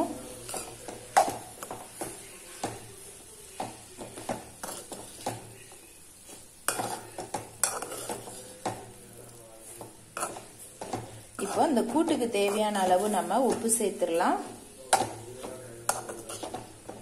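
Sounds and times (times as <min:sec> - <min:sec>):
metal spatula scraping pan: 0:00.0 - 0:02.9, 0:03.6 - 0:17.0
faint frying sizzle: 0:00.0 - 0:17.0.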